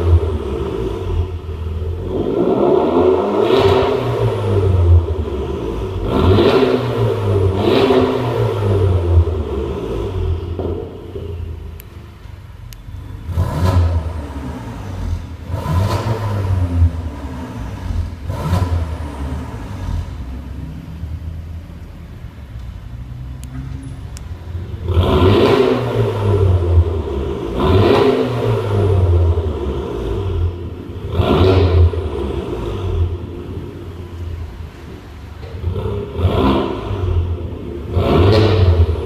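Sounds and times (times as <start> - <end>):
car engine revving: 0.0 - 12.0, 13.0 - 23.6, 24.2 - 39.0
car engine idling: 0.0 - 39.0.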